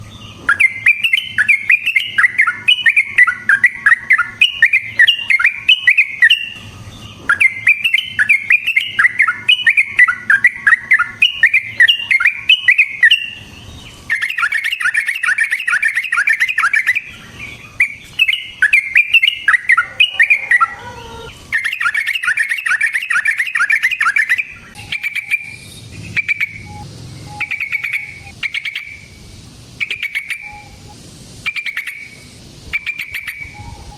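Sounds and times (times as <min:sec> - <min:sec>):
bird singing chattering phrases: 0:00.0 - 0:33.9.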